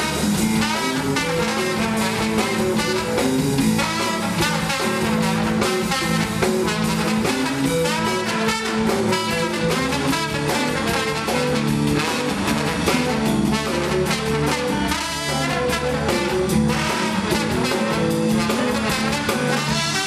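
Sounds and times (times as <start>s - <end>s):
drums keeping a beat: 0.0s - 20.0s
held brass notes: 0.0s - 20.0s
instrumental band music: 0.0s - 20.0s.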